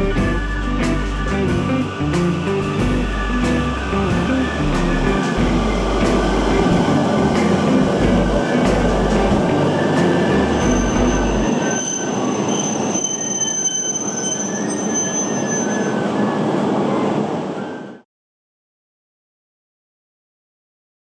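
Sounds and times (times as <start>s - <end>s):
wheels squealing: 0.0s - 17.9s
train rumbling on rails: 0.0s - 18.0s.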